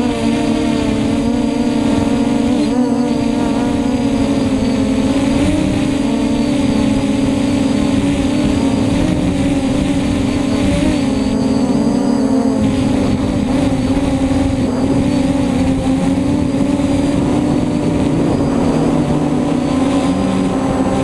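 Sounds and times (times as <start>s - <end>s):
quadcopter buzzing: 0.0s - 21.0s.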